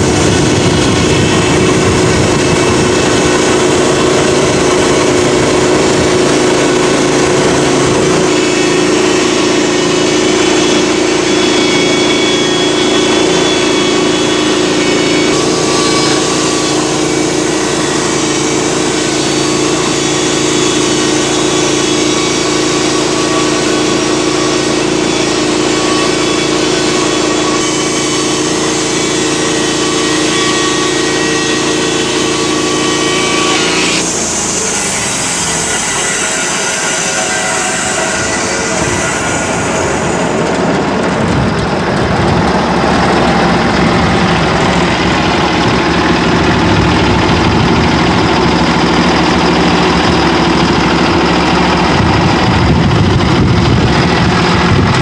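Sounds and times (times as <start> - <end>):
sawmill running: 0.0 - 55.0.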